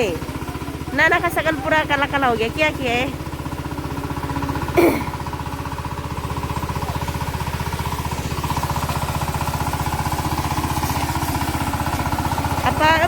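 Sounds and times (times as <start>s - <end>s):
small engine thumping steadily: 0.0s - 13.0s.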